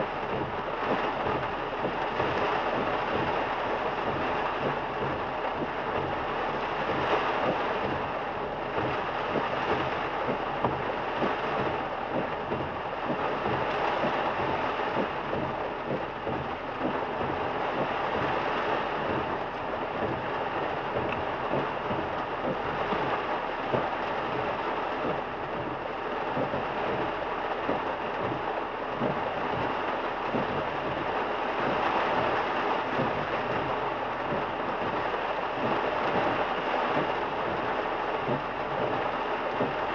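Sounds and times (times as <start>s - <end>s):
rain hitting a car: 0.0s - 39.9s
tyres on wet road: 0.0s - 39.9s.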